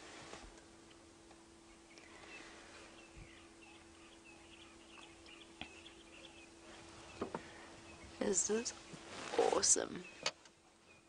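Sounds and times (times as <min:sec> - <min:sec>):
steady low hum: 0:00.0 - 0:11.0
faint bird chirping: 0:00.8 - 0:11.0.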